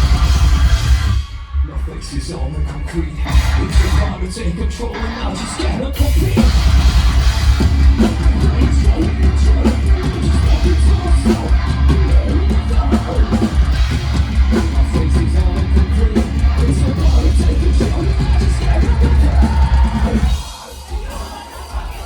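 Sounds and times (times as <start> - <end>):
metal band playing live: 0.0 - 22.0.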